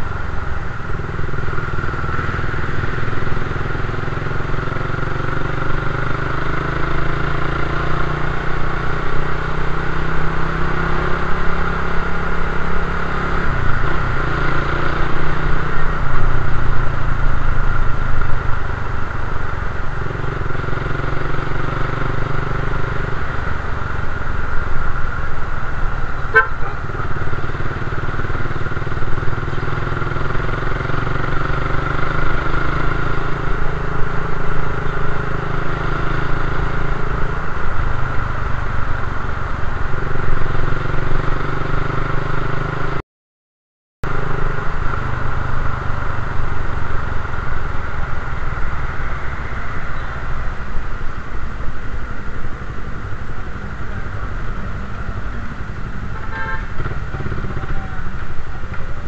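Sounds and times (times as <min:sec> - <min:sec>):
motorcycle engine running: 0:00.0 - 0:43.0, 0:44.0 - 0:59.0
street traffic: 0:00.0 - 0:43.0, 0:44.0 - 0:59.0.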